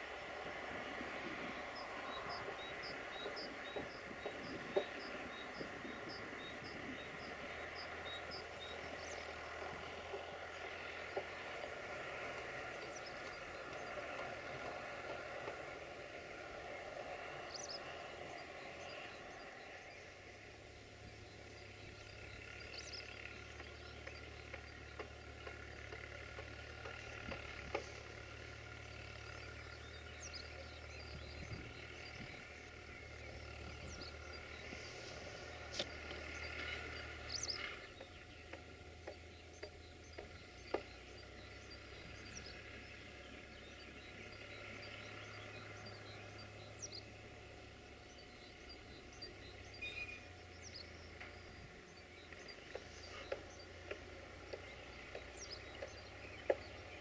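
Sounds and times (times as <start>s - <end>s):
birds chirping: 0.0s - 57.0s
distant tractor engine drone: 0.0s - 57.0s.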